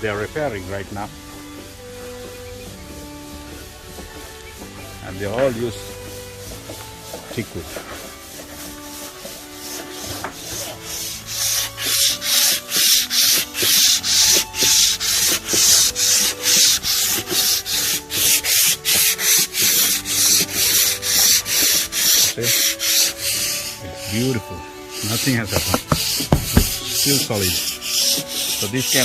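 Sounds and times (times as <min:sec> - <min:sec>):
wood being sanded by hand: 0:00.0 - 0:29.0.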